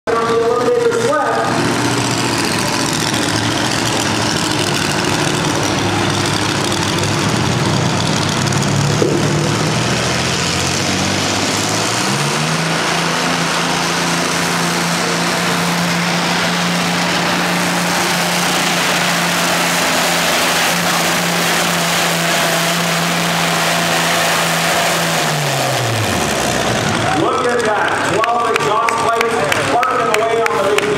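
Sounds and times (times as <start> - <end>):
tractor engine at full revs: 0.1 - 30.9.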